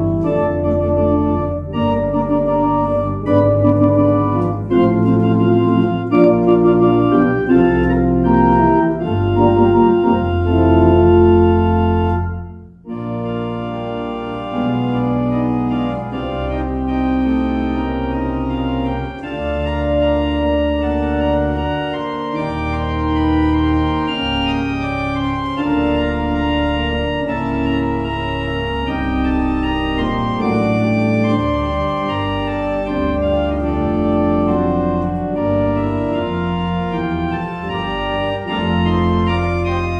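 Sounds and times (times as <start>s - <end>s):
church organ chords: 0.0s - 39.9s.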